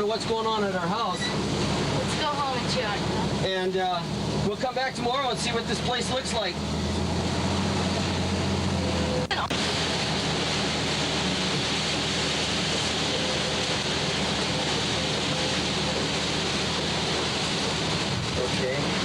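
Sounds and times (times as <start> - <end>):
hurricane-force wind: 0.0 - 19.0
low vehicle engine hum: 0.0 - 19.0
surf: 0.0 - 19.0.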